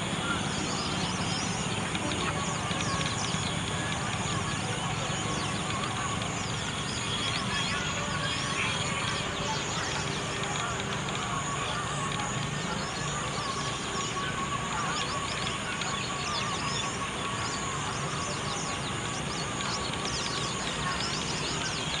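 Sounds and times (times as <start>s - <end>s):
flock of birds chirping: 0.0s - 22.0s.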